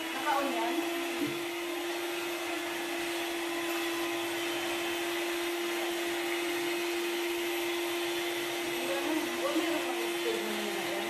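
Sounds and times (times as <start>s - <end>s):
electric hand mixer whining: 0.0s - 11.0s.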